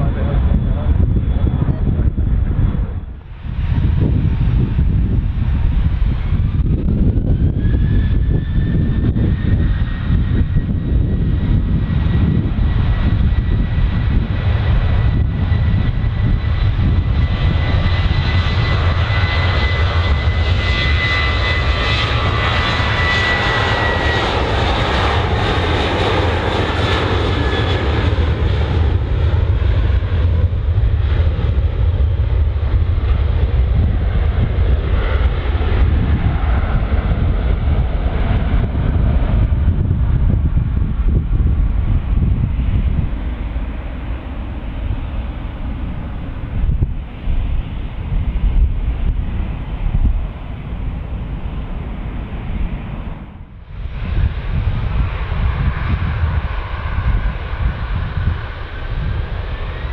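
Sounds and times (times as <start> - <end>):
jet airliner passing: 0.0 - 59.9.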